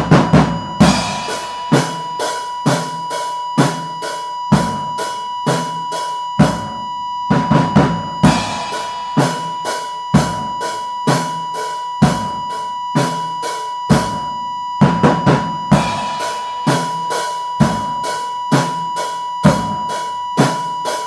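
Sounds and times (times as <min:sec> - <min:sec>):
constant high-pitched tone: 0:00.0 - 0:21.0
drum kit beat: 0:00.0 - 0:21.0.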